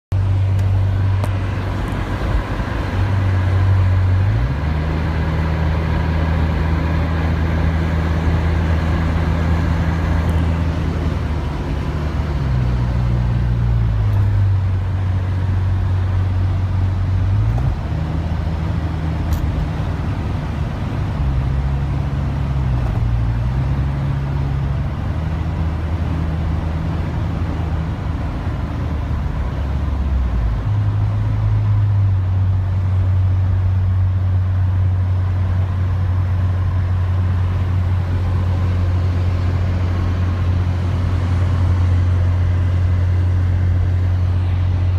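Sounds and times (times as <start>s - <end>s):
vehicle engine and road drone: 0.0s - 44.9s
dump truck running alongside: 0.1s - 44.9s.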